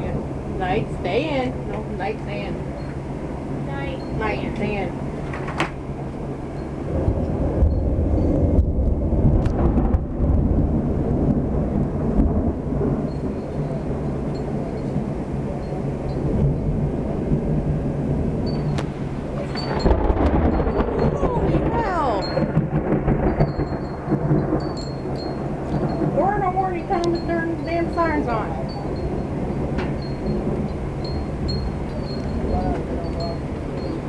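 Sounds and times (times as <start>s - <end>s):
thunder rumbling: 0.0s - 34.0s.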